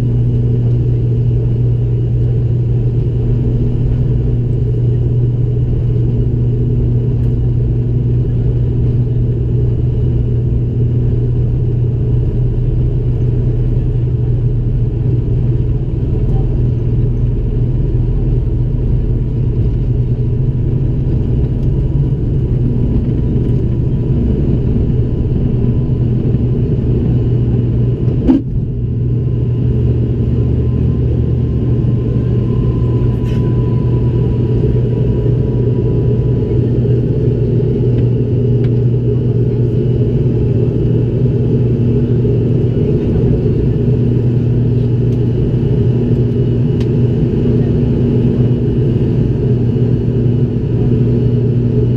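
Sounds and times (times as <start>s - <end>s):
turboprop propeller drone: 0.0s - 51.9s.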